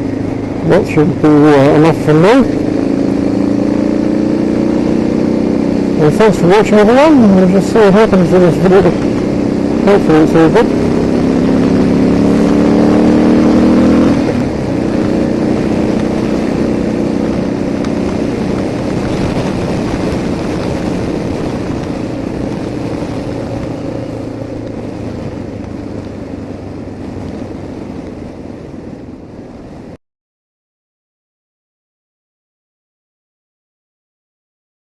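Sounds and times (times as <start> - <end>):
heavy wind noise: 0.0 - 30.0
motorcycle engine accelerating: 0.0 - 30.0.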